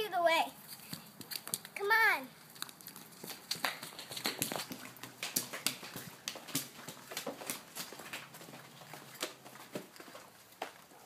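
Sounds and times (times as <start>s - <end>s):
crunching footsteps: 0.6s - 11.0s.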